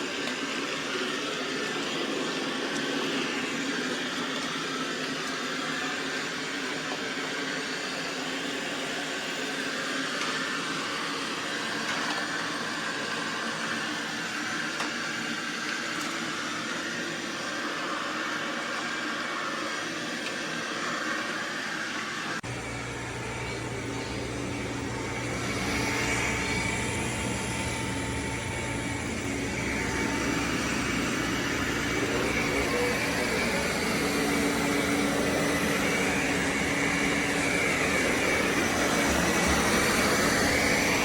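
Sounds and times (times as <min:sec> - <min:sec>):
robot vacuum whirring: 0:00.1 - 0:41.0.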